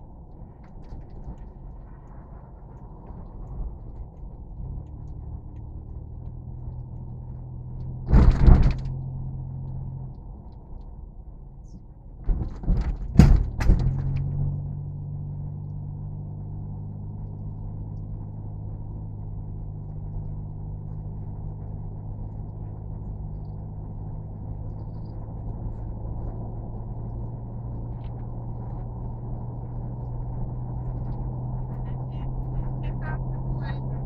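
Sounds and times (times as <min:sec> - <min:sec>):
faint ticks and rattles: 0:00.0 - 0:14.5, 0:19.9 - 0:33.8
vehicle engine drone: 0:00.0 - 0:34.0.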